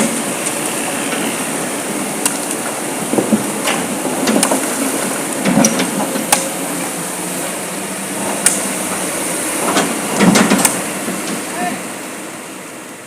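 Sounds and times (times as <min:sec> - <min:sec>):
excavator running: 0:00.0 - 0:13.0.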